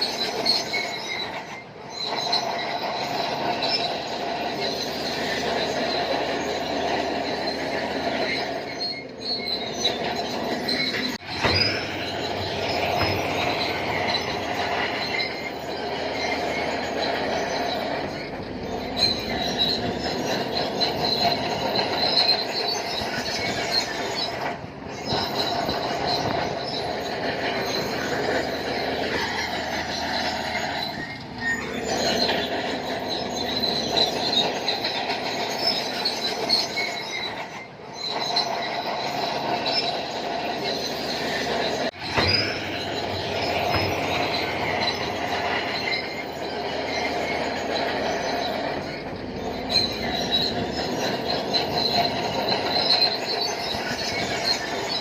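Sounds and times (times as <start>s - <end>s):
bulldozer engine running: 0.0s - 55.0s
bulldozer tracks squealing: 0.0s - 55.0s.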